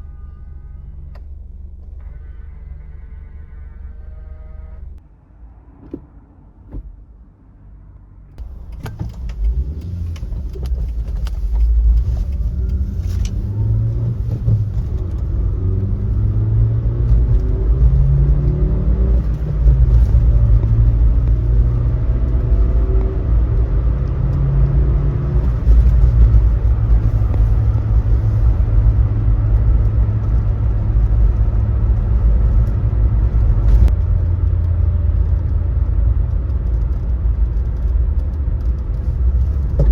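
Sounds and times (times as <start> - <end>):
engine droning: 0.6 - 39.9.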